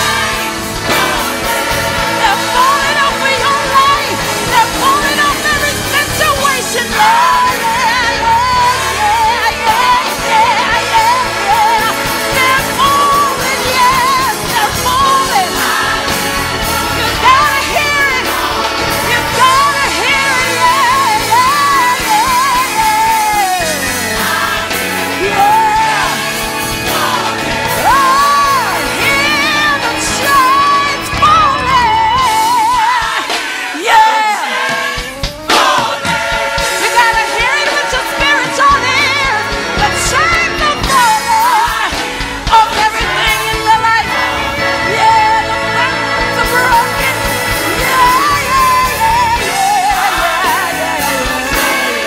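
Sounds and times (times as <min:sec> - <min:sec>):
live band playing: 0:00.0 - 0:52.0
woman singing gospel: 0:00.0 - 0:52.0.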